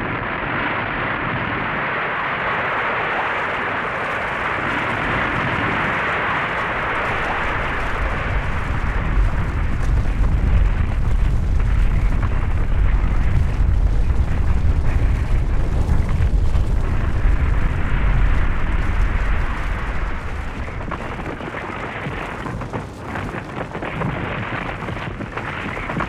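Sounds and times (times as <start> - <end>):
deep avalanche rumble: 0.0 - 26.0
tumbling debris crackles: 0.0 - 26.0.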